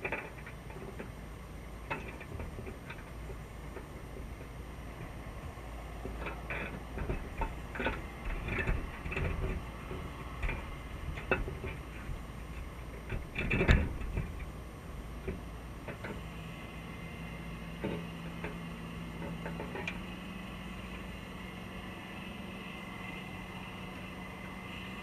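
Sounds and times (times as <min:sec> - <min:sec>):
distant boat motor hum: 0:00.0 - 0:25.0.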